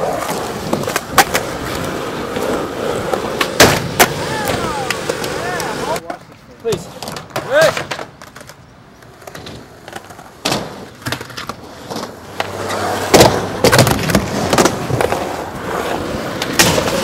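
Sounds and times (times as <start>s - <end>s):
skateboard clacking and slapping: 0.0s - 17.0s
skateboard wheels rolling on pavement: 0.0s - 17.0s.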